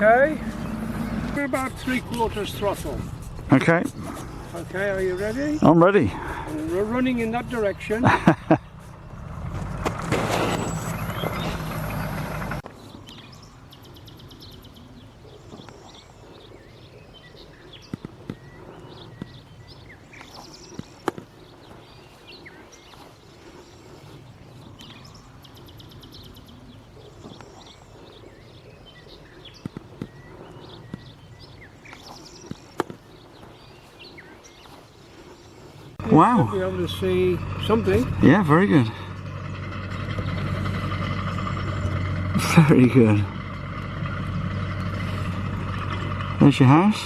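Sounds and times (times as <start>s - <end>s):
small birds trilling: 0.0s - 9.4s, 10.4s - 47.0s.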